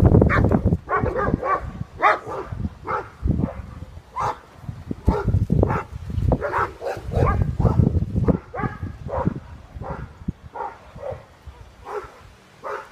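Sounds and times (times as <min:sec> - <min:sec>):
dog barking: 0:00.3 - 0:04.4, 0:05.1 - 0:12.9.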